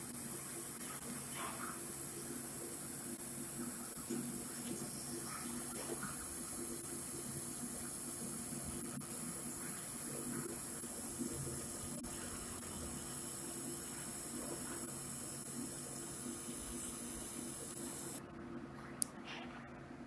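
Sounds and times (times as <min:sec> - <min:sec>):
laser marking machine hiss: 0:00.0 - 0:18.2.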